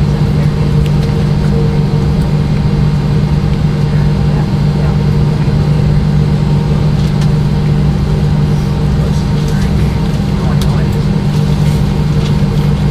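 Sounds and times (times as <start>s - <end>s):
aircraft cabin hum: 0.0s - 12.9s.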